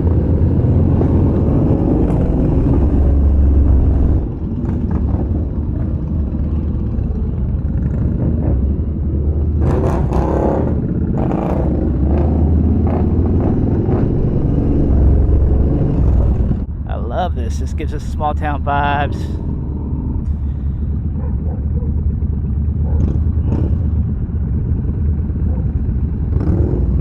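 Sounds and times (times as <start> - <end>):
motorcycle engine rumble: 0.0 - 27.0.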